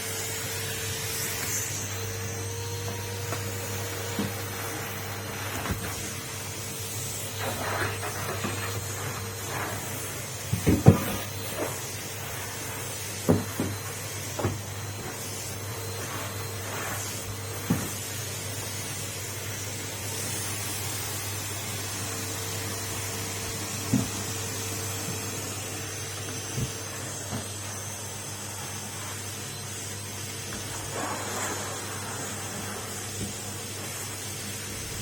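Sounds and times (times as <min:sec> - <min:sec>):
vacuum cleaner humming: 0:00.0 - 0:35.0.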